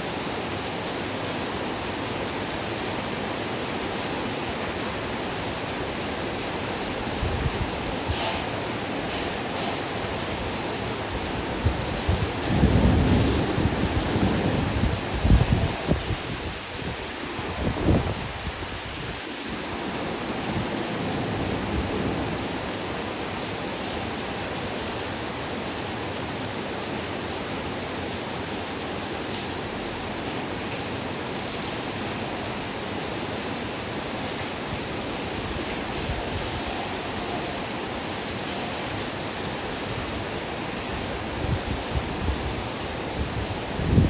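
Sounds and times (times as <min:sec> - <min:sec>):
heavy rain hissing: 0:00.0 - 0:44.0
low wind gusting: 0:01.7 - 0:25.8, 0:32.3 - 0:44.0.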